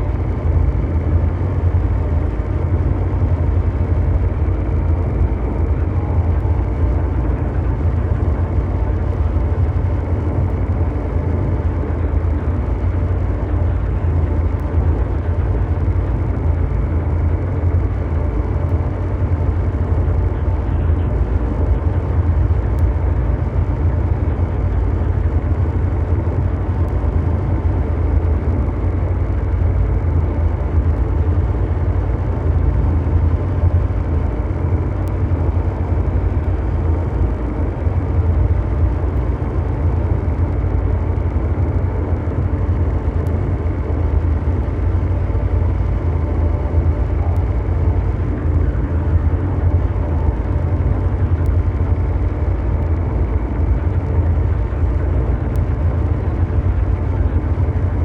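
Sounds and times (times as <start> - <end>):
low mechanical drone: 0.0 - 58.0.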